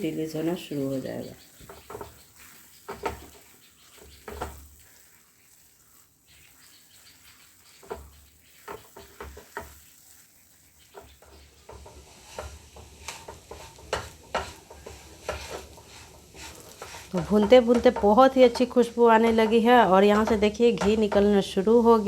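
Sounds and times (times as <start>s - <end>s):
spices sizzling in a pan: 0.0s - 22.0s
spoon scraping a pan: 1.4s - 22.0s.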